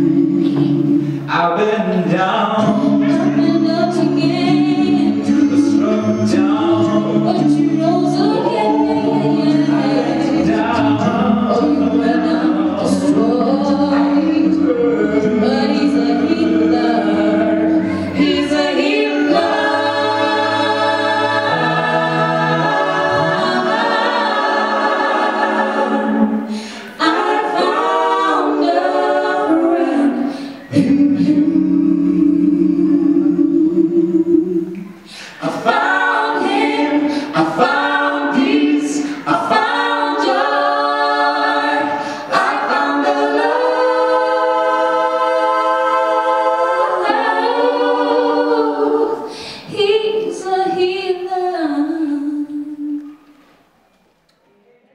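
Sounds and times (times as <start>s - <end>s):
a cappella group singing in harmony: 0.0s - 53.7s.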